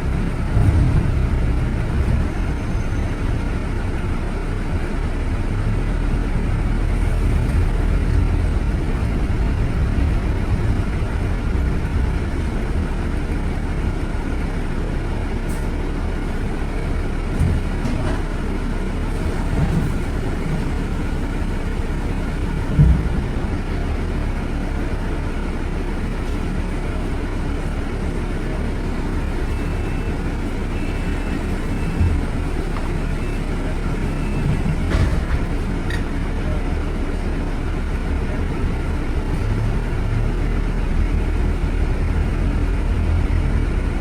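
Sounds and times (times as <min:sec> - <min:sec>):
city road traffic rumble: 0:00.0 - 0:44.0.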